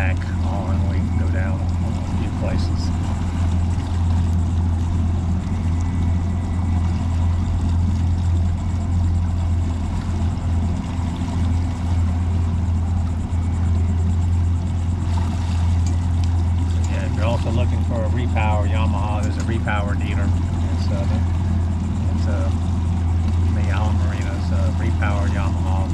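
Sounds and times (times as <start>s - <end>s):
outboard motor droning: 0.0s - 25.9s.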